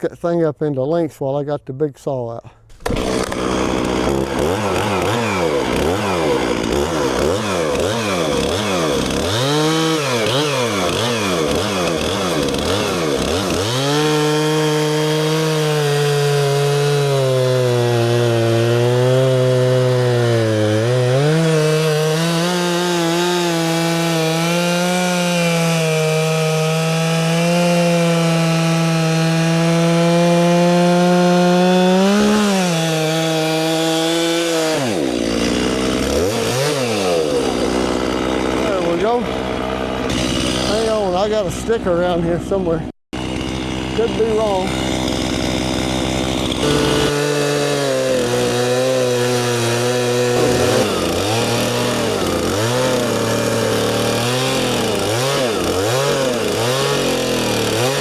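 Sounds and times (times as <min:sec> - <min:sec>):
chainsaw cutting a log: 0:02.7 - 0:42.6, 0:43.2 - 0:58.0.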